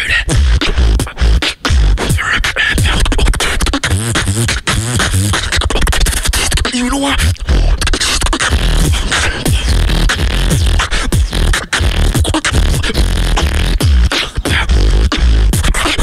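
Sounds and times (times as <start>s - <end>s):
person beatboxing: 0.0s - 16.0s.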